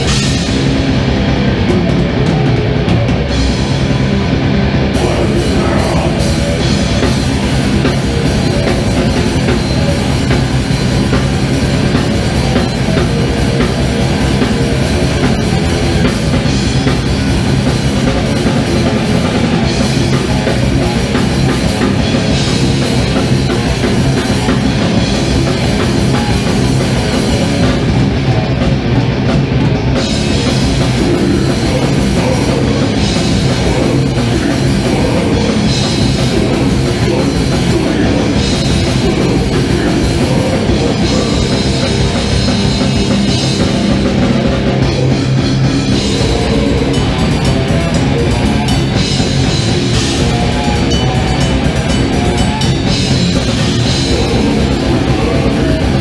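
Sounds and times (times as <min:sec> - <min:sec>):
distorted electric guitars: 0:00.0 - 0:56.0
drum kit playing: 0:00.0 - 0:56.0.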